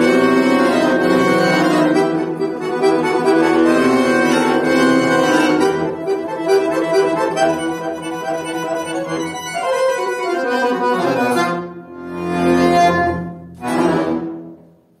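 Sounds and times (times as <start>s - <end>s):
button accordion playing: 0.0s - 14.5s.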